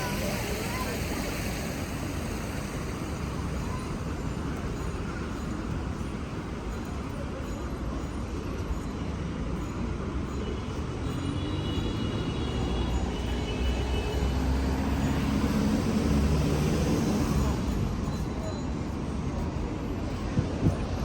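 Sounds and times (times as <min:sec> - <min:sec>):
city street traffic: 0:00.0 - 0:21.0.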